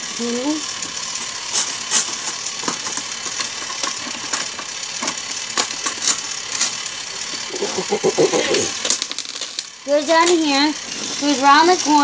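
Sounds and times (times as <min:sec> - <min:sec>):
toy train motor whirring: 0:00.0 - 0:12.0
sharp clicks of toy train: 0:00.6 - 0:07.5, 0:08.5 - 0:12.0.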